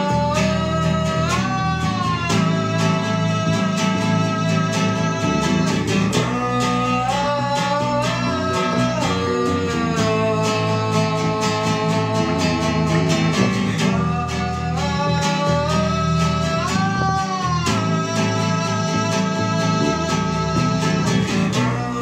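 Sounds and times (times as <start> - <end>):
bass line: 0.0 - 22.0
guitar melody with bending notes: 0.0 - 22.0
steady beat: 0.0 - 22.0.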